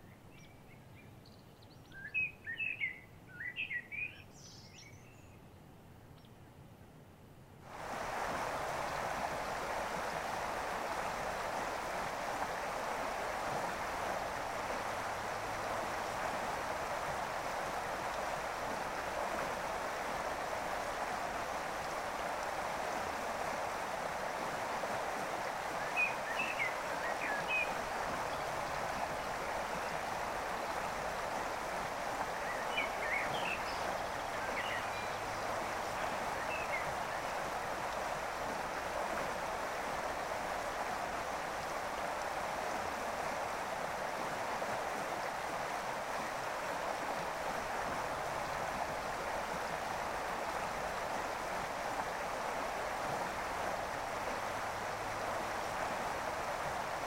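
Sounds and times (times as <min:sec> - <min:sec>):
stream flowing: 0:07.5 - 0:57.0.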